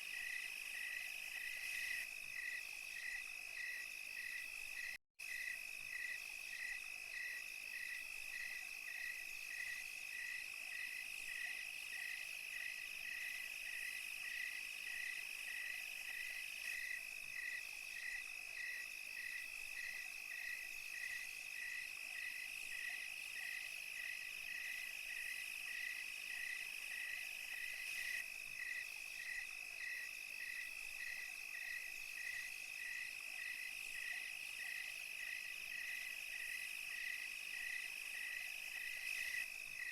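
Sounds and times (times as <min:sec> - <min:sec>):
faint high insect hiss: 0:00.0 - 0:39.9
insect pulsing call: 0:00.0 - 0:39.9
insect steady high trill: 0:00.0 - 0:39.9.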